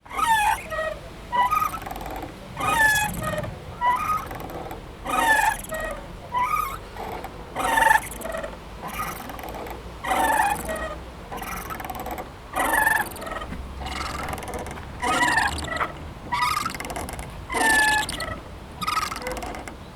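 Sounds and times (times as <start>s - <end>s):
swing squeaking: 0.0s - 19.9s.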